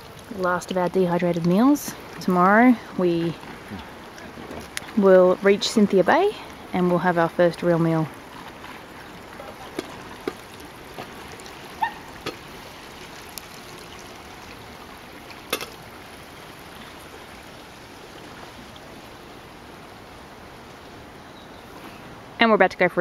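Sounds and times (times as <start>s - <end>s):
small waves lapping on stones: 0.0s - 19.2s.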